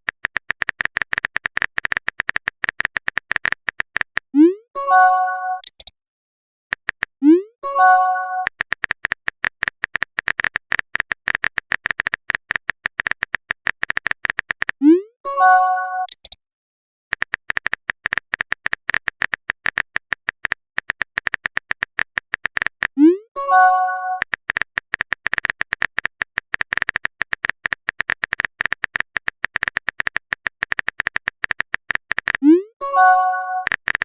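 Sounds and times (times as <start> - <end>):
keyboard typing clicks: 0.0 - 5.9, 6.7 - 16.4, 17.1 - 34.0.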